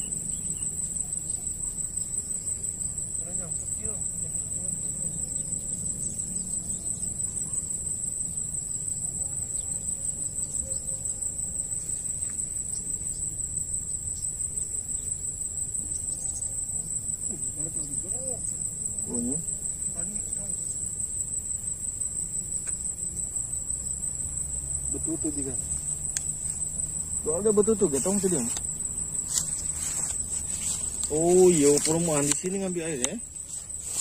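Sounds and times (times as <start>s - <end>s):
insect chorus trilling: 0.0s - 34.0s.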